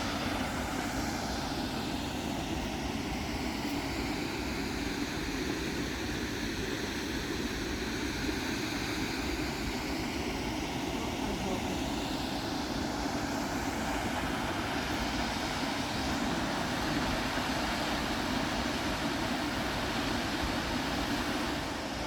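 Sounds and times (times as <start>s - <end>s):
rush of falling water: 0.0s - 22.0s.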